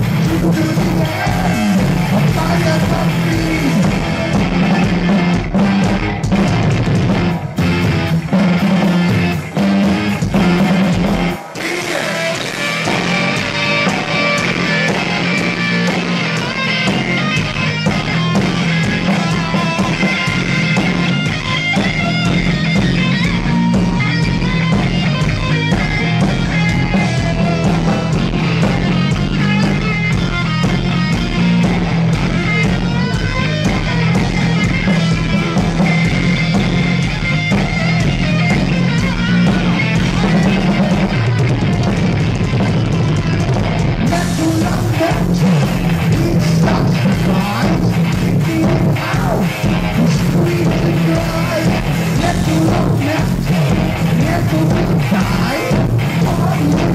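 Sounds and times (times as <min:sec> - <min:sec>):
heavy metal band playing live: 0:00.0 - 0:56.9.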